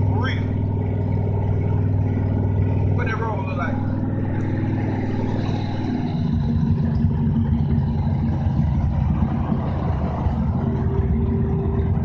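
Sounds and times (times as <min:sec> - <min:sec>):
car engine from inside cabin: 0:00.0 - 0:12.0.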